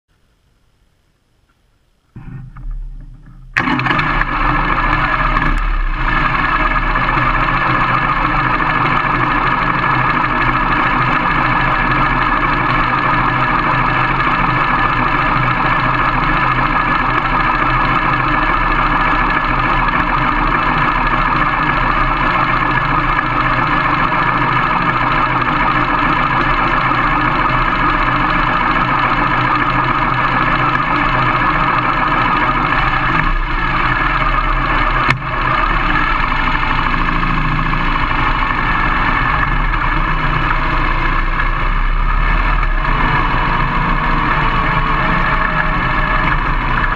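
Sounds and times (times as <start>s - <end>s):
motorcycle engine running: 2.2s - 46.9s.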